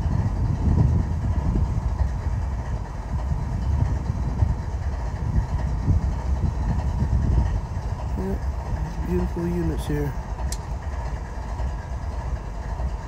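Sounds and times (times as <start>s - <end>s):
locomotives idling: 0.0s - 13.0s.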